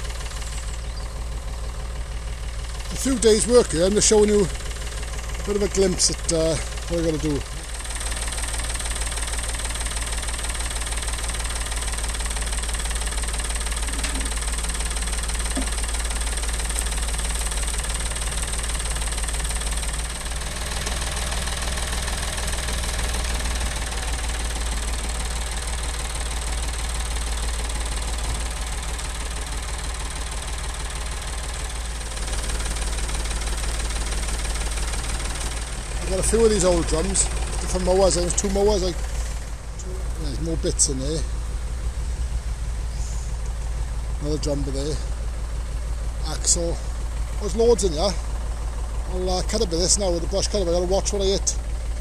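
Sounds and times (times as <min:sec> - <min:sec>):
tractor engine knocking clatter: 0:00.0 - 0:52.0.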